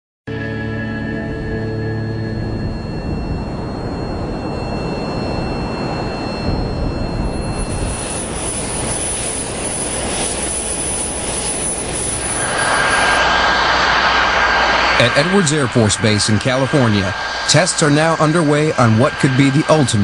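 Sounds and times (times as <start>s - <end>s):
jet engine rumble: 1.0s - 20.0s.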